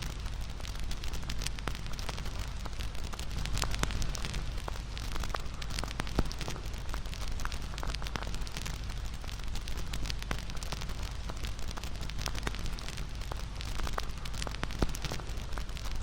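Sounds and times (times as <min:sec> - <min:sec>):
bonfire crackling and popping: 0:00.0 - 0:16.0
low rumble of flames: 0:00.0 - 0:16.0.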